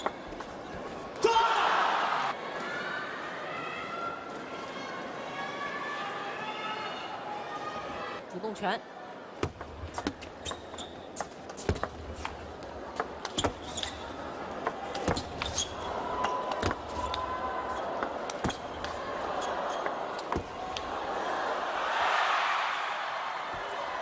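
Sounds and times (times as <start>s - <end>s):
crowd noise: 0.0s - 24.0s.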